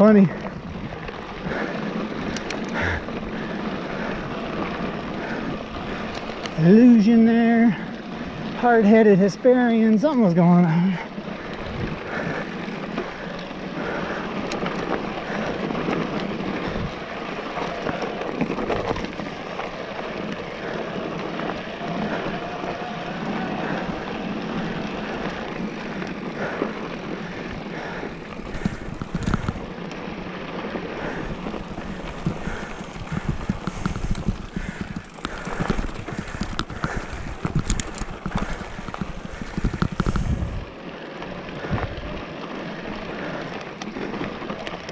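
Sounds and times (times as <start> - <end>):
bike knocking and rattling: 0.0 - 44.9
tyre and wind noise: 0.0 - 44.9.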